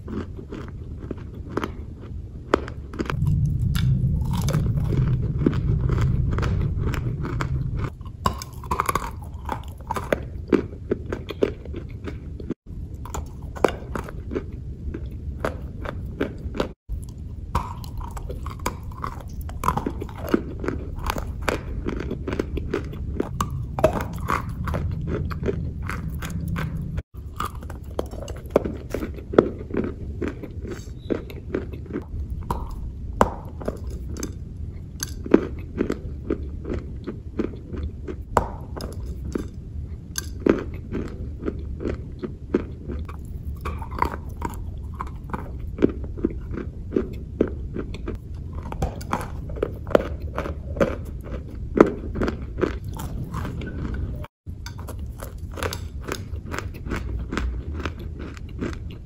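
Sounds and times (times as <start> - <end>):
crunchy chewing: 0.0 - 59.0
low steady hum: 0.0 - 59.0.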